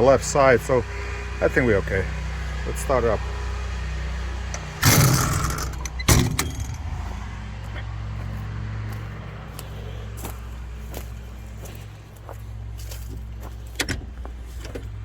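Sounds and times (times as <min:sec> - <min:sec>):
diesel engine starting and idling: 0:00.0 - 0:15.0.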